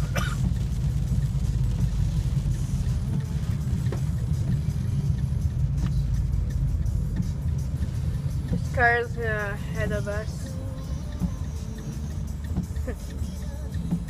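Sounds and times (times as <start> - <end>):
car engine rumble: 0.0 - 14.0
road noise inside car: 0.0 - 14.0.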